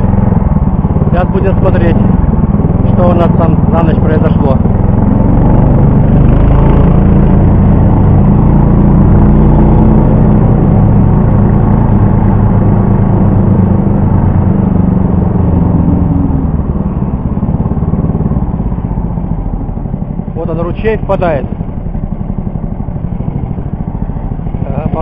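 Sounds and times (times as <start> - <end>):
snow tow engine running: 0.0 - 25.0.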